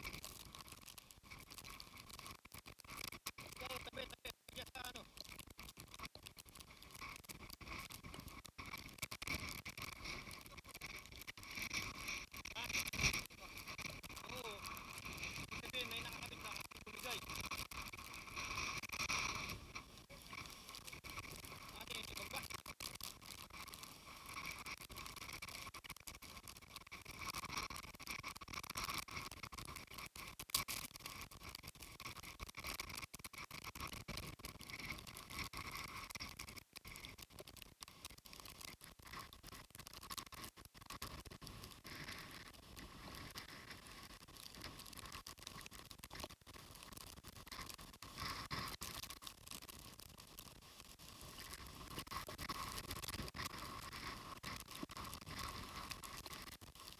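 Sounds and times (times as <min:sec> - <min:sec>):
raindrops pattering on microphone: 0:00.0 - 0:56.9.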